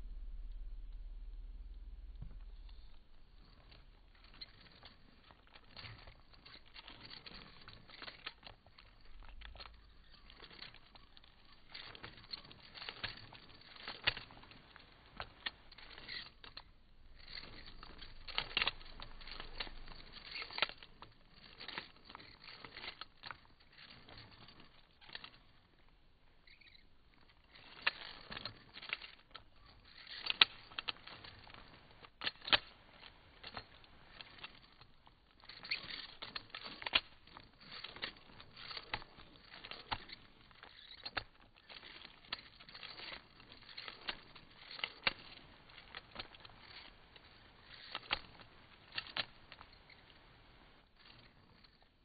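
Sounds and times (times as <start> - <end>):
objects clicking and rustling: 2.1 - 52.0.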